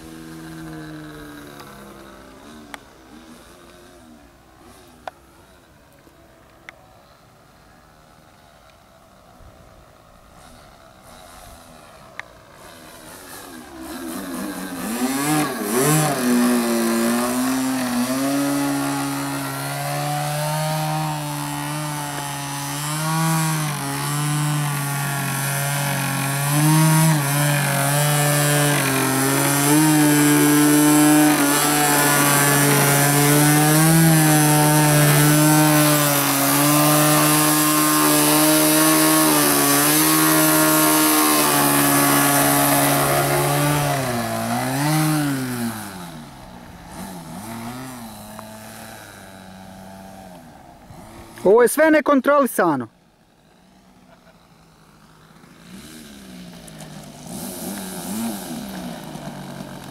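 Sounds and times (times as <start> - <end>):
model plane motor buzzing: 0.0 - 5.7, 10.2 - 51.5, 53.6 - 59.9.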